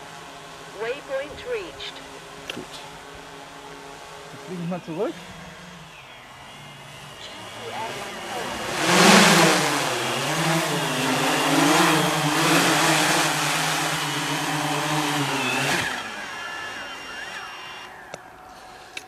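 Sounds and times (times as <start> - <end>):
drone motors and propellers buzzing: 0.0 - 19.0.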